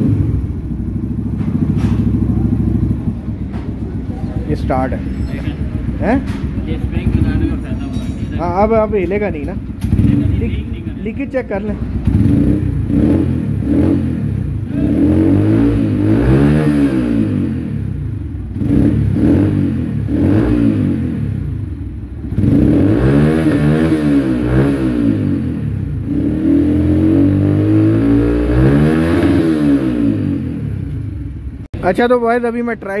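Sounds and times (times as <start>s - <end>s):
motorcycle engine revving: 0.0s - 32.4s.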